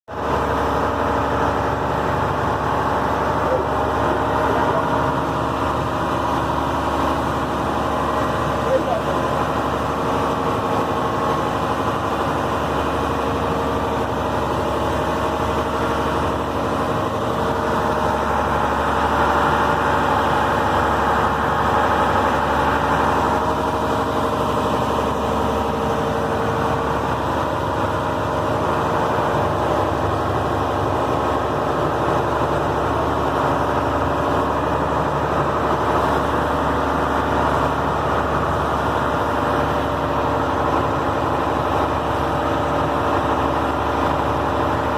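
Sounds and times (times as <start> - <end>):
boat engine running: 0.1 - 44.9.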